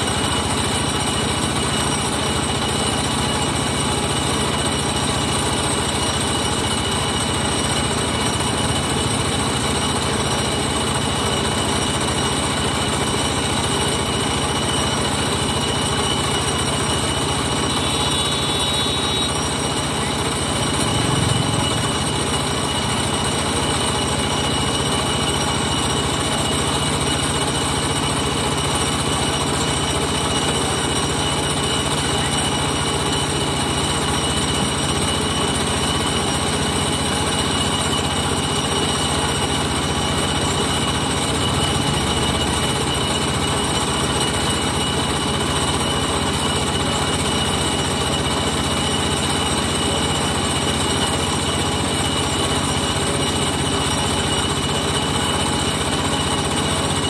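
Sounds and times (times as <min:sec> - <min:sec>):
high steady whine: 0:00.0 - 0:46.0
engine running steadily: 0:00.0 - 0:57.0.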